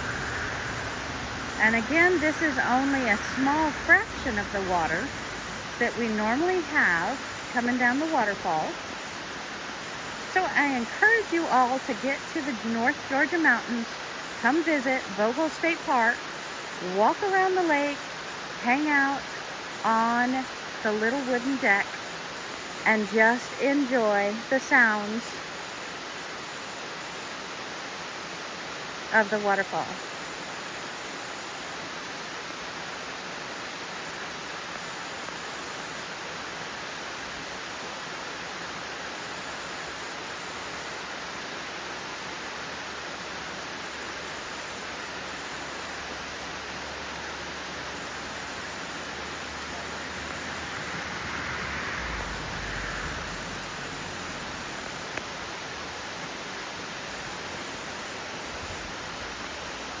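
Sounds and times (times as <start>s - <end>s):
waterfall rushing over rocks: 0.0s - 60.0s.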